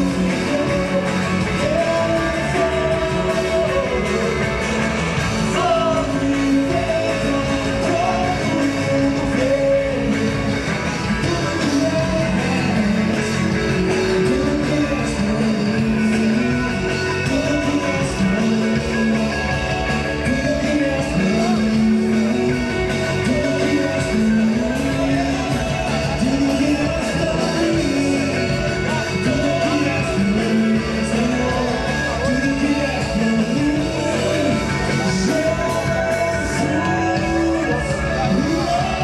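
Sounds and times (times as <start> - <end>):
electric guitars playing: 0.0 - 39.0
person singing: 0.0 - 39.0.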